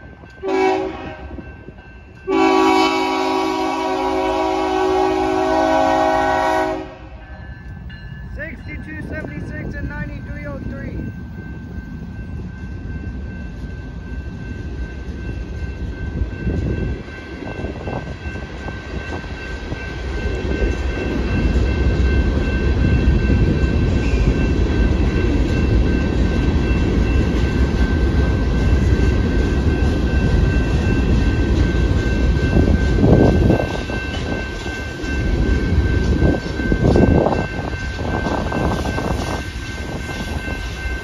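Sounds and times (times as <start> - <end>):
crossing bell ringing: 0.0 - 41.0
diesel locomotive passing: 0.0 - 41.0.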